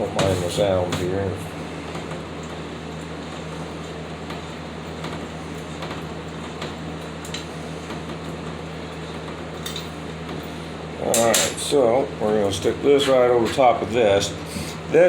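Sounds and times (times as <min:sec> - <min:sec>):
machine hum with fan hiss: 0:00.0 - 0:15.0.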